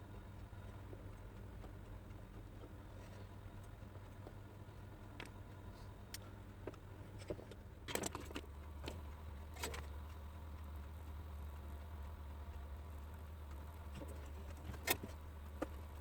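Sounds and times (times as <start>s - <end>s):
faint low hum: 0.0s - 16.0s
small metallic rattles: 0.0s - 16.0s.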